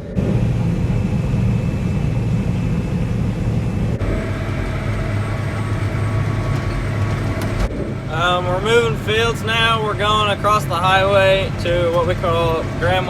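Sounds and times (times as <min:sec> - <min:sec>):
faint steady whine: 0:00.0 - 0:13.0
harvester engine droning: 0:00.0 - 0:13.0.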